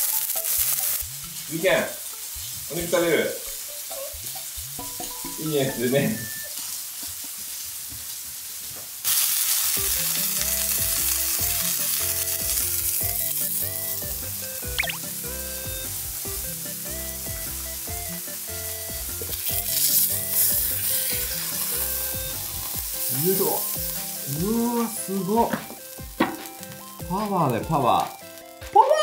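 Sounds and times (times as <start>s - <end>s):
background music with low notes: 0.0s - 6.6s, 9.8s - 29.0s
steak sizzling on a hot plate: 0.0s - 29.0s.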